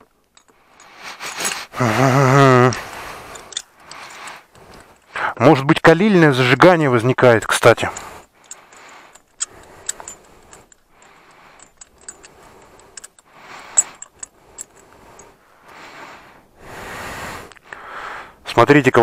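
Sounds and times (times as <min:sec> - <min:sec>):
small metal parts clinking: 0:00.0 - 0:15.4.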